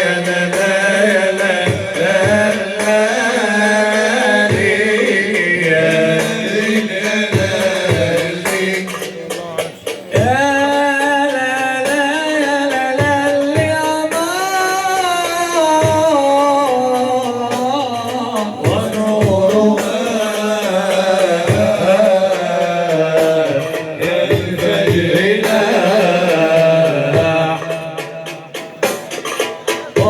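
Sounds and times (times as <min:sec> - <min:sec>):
melismatic singing: 0:00.0 - 0:30.0.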